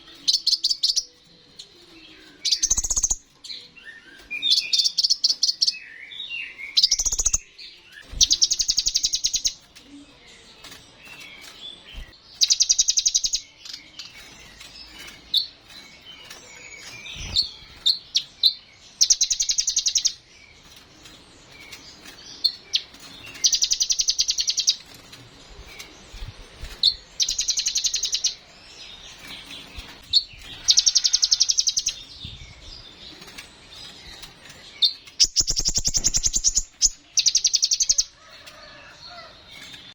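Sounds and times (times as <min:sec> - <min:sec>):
sunbird singing rattling trills: 0:00.0 - 0:39.9.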